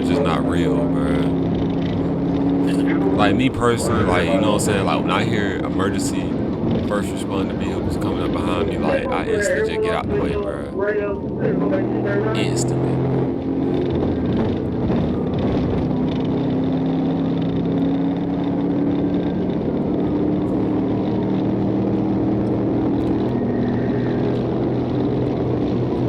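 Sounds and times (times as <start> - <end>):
car engine running hard: 0.0 - 26.0
road and wind noise: 0.0 - 26.0.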